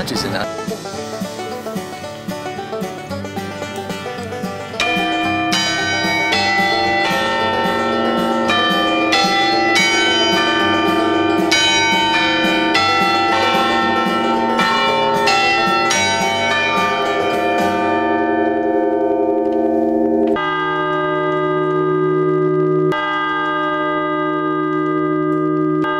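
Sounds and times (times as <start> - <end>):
church bells ringing: 4.1 - 25.9.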